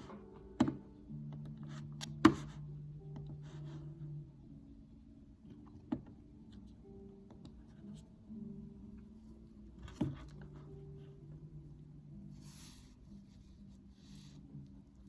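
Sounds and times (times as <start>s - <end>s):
soft held low tones: 0.0s - 15.0s.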